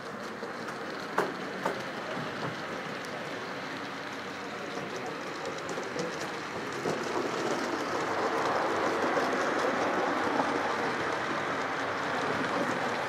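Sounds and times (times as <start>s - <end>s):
model train rolling on track: 0.0s - 13.0s.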